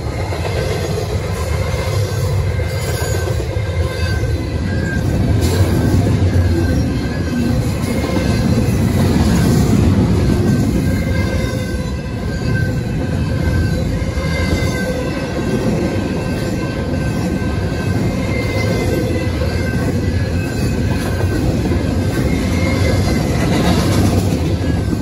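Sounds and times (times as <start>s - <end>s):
freight cars rumbling on rail: 0.0s - 25.0s.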